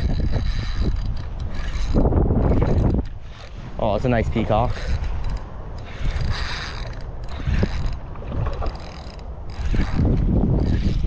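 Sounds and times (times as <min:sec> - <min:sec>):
fishing reel gears whirring: 0:00.0 - 0:11.0
wind rumble on microphone: 0:00.0 - 0:11.0.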